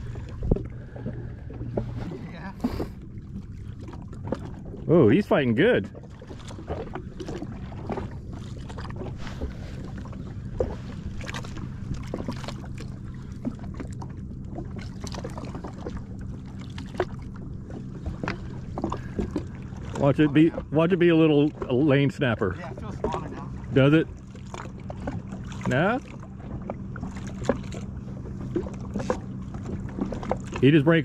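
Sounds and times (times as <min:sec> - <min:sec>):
short splashes and knocks: 0:00.0 - 0:31.0
steady low hum: 0:00.0 - 0:31.0
waves lapping against hull: 0:00.0 - 0:31.0.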